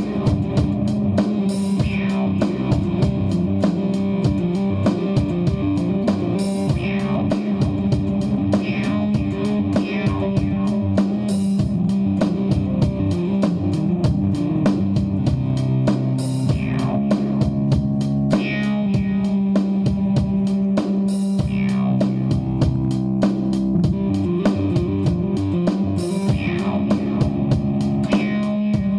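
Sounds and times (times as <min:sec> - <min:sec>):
bass guitar: 0:00.0 - 0:28.9
drum kit beat: 0:00.0 - 0:28.9
electric guitar: 0:00.0 - 0:28.9.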